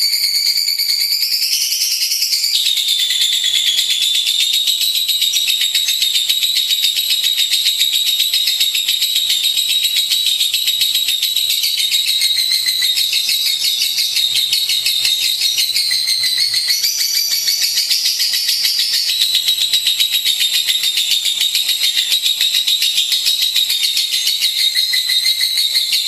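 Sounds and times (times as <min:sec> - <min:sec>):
lovebird chattering trill: 0:00.0 - 0:26.0.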